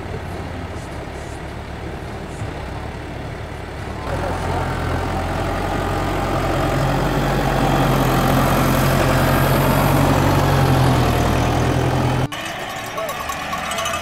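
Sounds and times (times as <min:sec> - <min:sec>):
diesel tractor engine running: 0:00.0 - 0:14.0.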